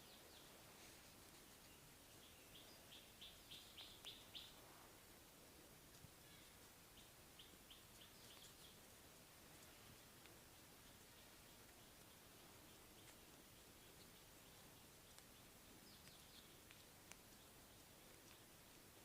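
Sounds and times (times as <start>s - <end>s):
bird chirping: 0.0s - 4.8s, 6.2s - 19.0s
faint hiss: 0.0s - 19.0s.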